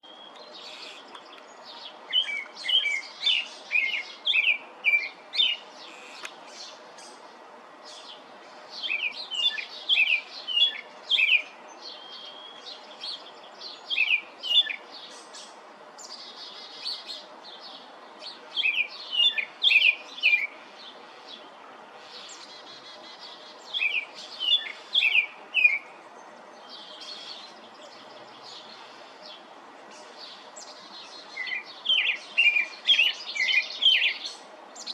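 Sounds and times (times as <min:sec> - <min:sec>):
robin singing: 0:00.0 - 0:34.9
steady low background noise: 0:00.0 - 0:34.9.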